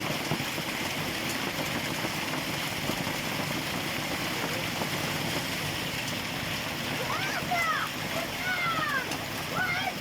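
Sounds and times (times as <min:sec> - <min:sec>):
rain falling: 0:00.0 - 0:10.0
rainwater running: 0:00.0 - 0:10.0.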